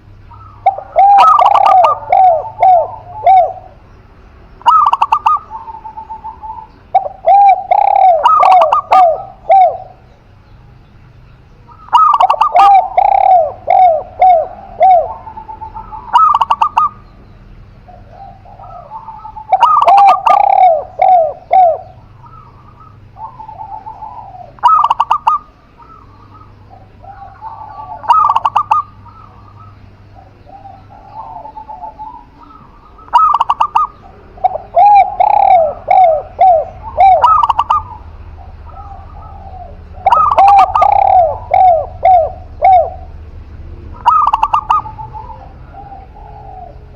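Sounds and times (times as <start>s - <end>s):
doves cooing: 0.0s - 46.9s.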